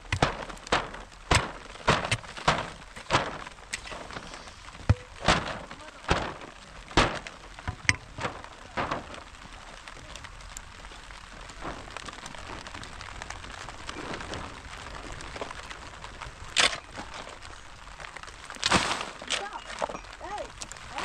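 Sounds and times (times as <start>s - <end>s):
sharp cracking knocks: 0.0s - 21.0s
steady rustling hiss: 0.0s - 21.0s.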